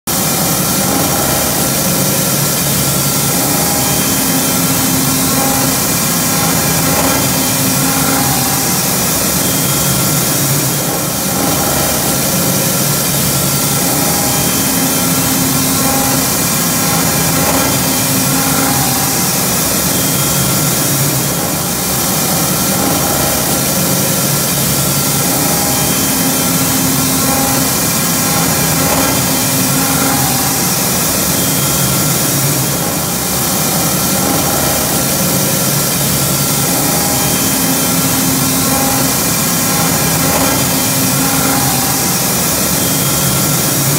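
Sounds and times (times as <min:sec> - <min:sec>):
hydraulic machinery humming: 0:00.1 - 0:43.9.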